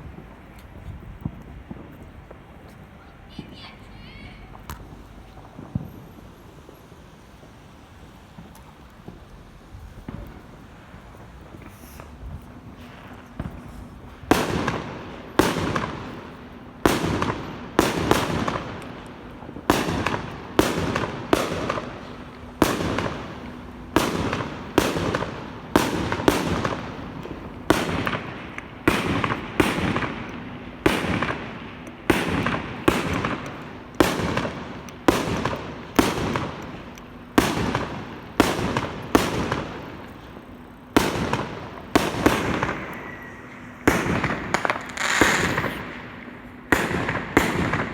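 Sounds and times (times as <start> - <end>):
fireworks banging: 0.0 - 47.9.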